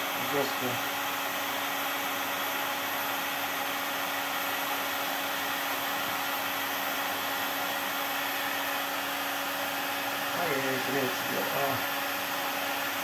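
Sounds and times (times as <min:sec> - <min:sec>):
heat gun blowing air: 0:00.0 - 0:13.0.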